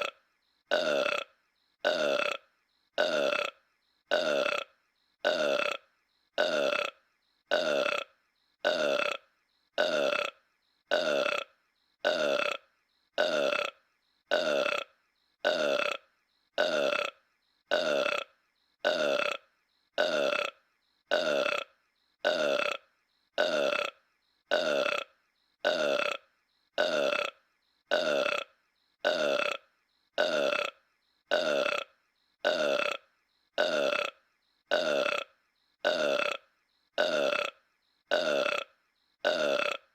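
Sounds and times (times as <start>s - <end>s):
cartoon burp: 0.0s - 39.9s.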